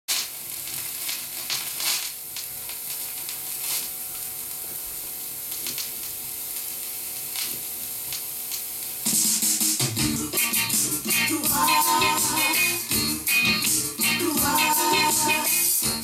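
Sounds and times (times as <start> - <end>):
vinyl crackles and pops: 0.1 - 16.0
vinyl surface hiss: 0.1 - 16.0.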